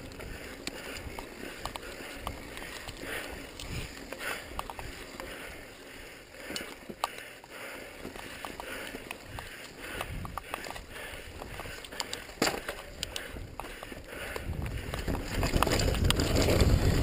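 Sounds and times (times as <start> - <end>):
bike clicking and rattling: 0.0 - 17.0
bike tyres rushing on dirt: 0.0 - 17.0.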